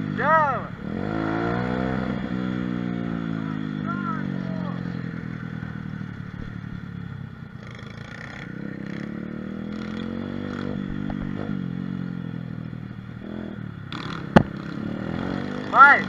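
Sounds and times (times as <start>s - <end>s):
small motorcycle engine revving: 0.0s - 16.0s.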